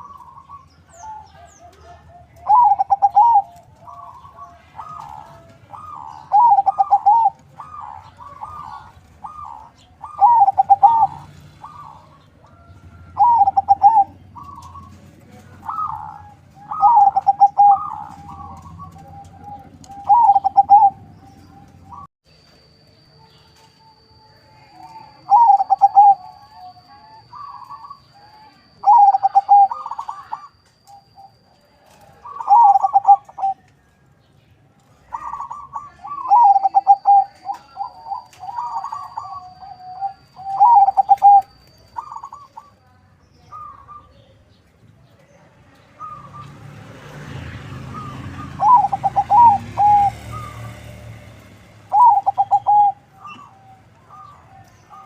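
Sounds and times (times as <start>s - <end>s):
dove cooing: 0.0s - 22.1s, 24.6s - 33.7s, 34.9s - 42.8s, 43.5s - 44.3s, 47.9s - 55.0s.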